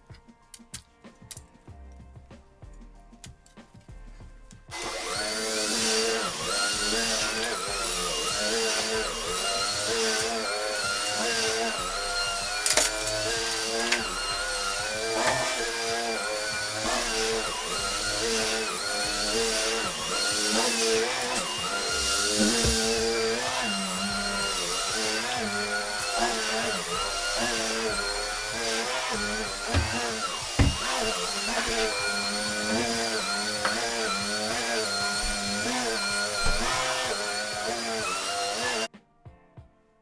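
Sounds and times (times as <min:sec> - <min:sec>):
electric motor running: 0:04.7 - 0:38.9.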